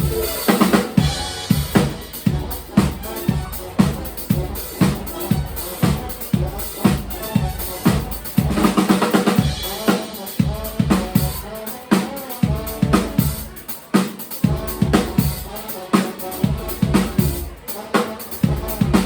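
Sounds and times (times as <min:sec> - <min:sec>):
drum kit beat: 0:00.0 - 0:19.0
live band music: 0:00.0 - 0:19.0.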